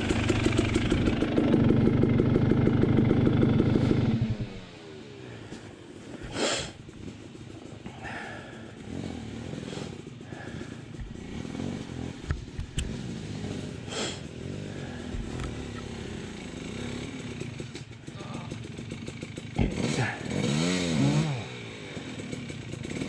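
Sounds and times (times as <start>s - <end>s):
dirt bike engine idling: 0.0s - 23.0s.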